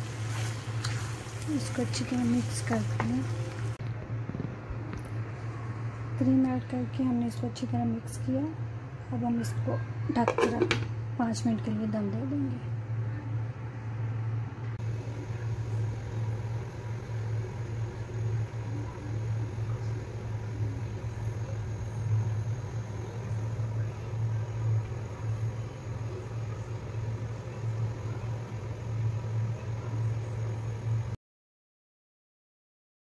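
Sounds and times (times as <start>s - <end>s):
low hum: 0.0s - 31.2s.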